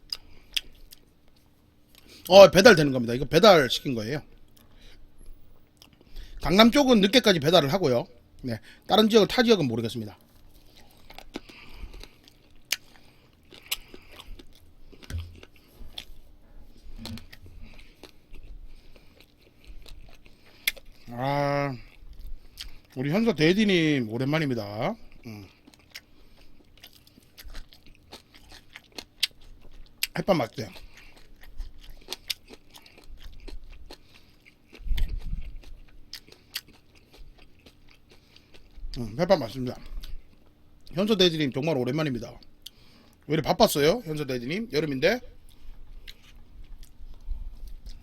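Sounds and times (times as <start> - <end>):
close chewing and biting: 0.0 - 2.9, 4.5 - 6.4, 9.8 - 41.0, 45.4 - 48.0.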